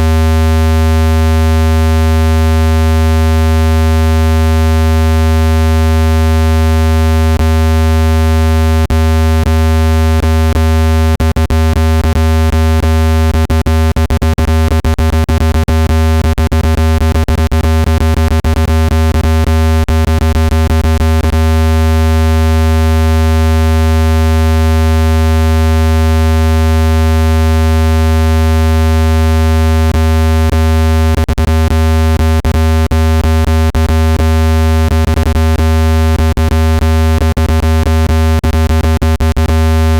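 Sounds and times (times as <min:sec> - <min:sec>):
deep synthesized buzz: 0:00.0 - 0:39.9.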